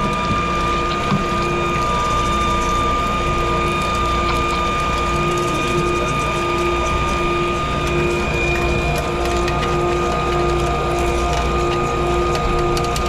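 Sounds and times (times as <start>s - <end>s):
pipe-threading machine running: 0.0s - 13.0s.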